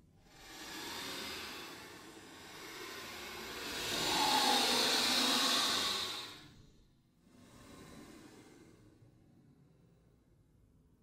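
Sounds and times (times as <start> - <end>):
faint hiss: 0.2 - 9.2
breathy hissing ghostly exhale: 0.2 - 9.4.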